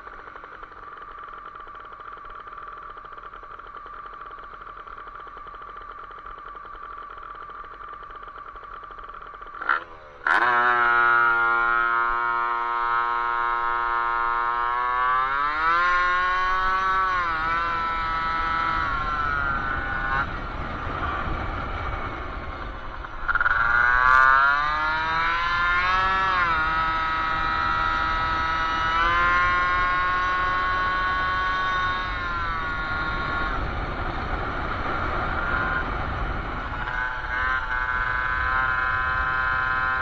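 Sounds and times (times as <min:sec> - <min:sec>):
moped engine accelerating: 0:00.0 - 0:40.0.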